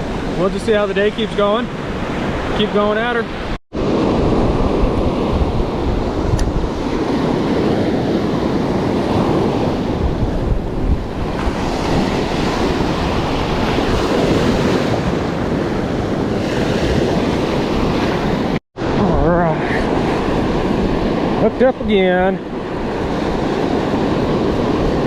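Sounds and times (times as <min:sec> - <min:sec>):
surf washing onto beach: 0:00.0 - 0:25.0
wind rumble on microphone: 0:03.4 - 0:25.0.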